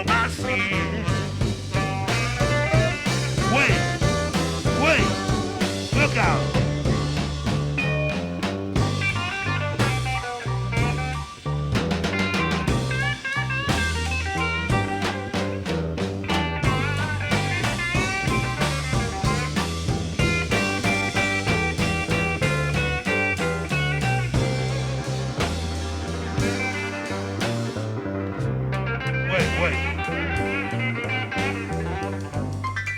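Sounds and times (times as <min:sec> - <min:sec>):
electric blues band playing: 0:00.0 - 0:32.9.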